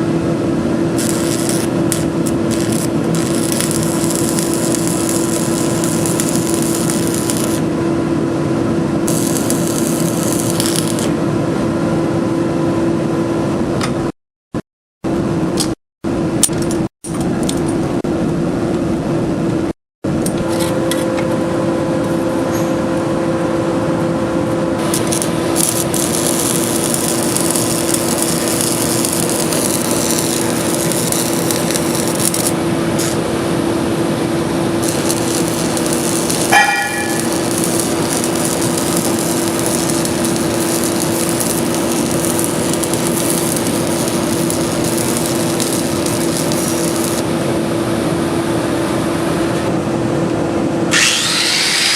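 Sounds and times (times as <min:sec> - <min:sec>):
machine humming and rushing: 0:00.0 - 0:13.3, 0:21.2 - 0:49.2, 0:50.9 - 0:51.9.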